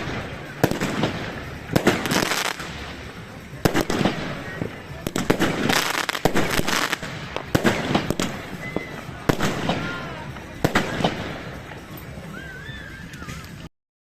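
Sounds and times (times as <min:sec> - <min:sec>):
fireworks bangs: 0:00.0 - 0:13.6
fireworks crackling: 0:00.0 - 0:13.7.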